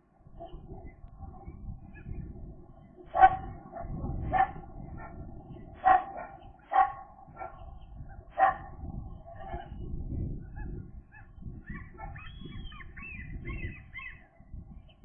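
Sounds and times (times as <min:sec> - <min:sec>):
gull barking calls: 0:00.4 - 0:09.8, 0:10.5 - 0:14.4.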